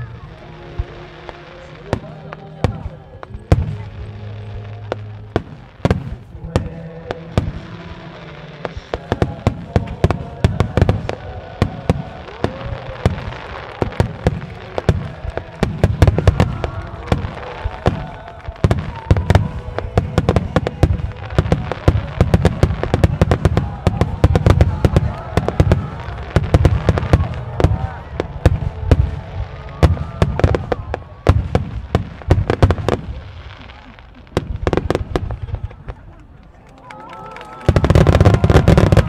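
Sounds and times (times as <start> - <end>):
low rumbling echo: 0.0 - 36.5
fireworks bursts and launches: 0.0 - 39.0.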